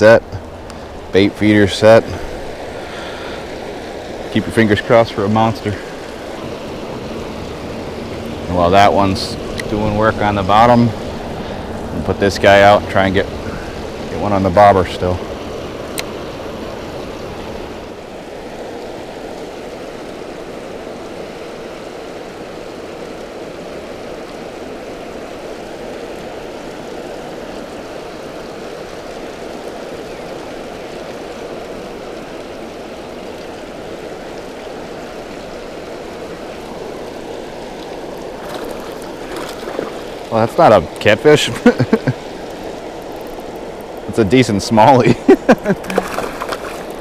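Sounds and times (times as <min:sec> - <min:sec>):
water rushing through dam spillway: 0:00.0 - 0:47.0.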